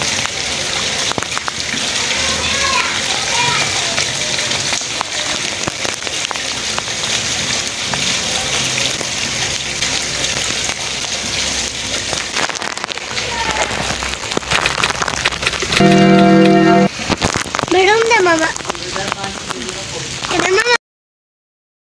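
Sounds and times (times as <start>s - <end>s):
raindrops ticking: 0.0s - 20.8s
steady rain on hard surfaces: 0.0s - 20.8s.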